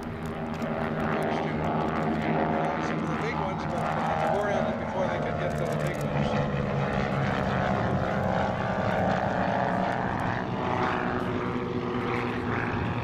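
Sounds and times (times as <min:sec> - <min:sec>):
propeller aircraft flying overhead: 0:00.0 - 0:13.0.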